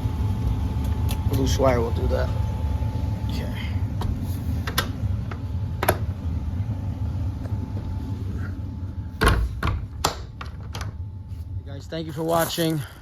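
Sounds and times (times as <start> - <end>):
air handler blower humming: 0.0 - 13.0.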